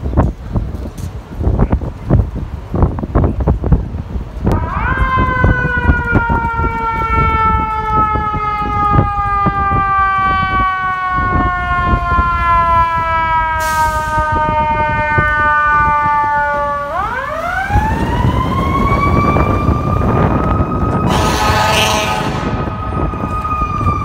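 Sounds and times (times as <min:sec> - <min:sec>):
street traffic: 0:00.0 - 0:24.0
truck rumble: 0:00.0 - 0:24.0
fire engine siren: 0:04.4 - 0:24.0.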